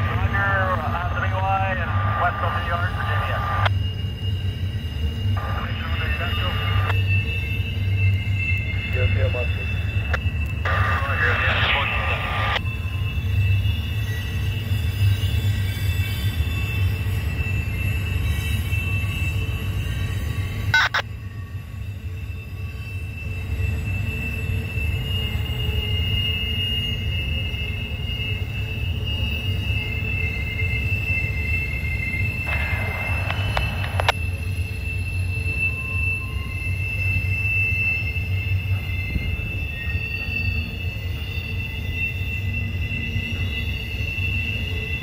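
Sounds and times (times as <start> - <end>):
low rumble of freight cars: 0.0 - 45.0
train wheels squealing: 0.0 - 45.0.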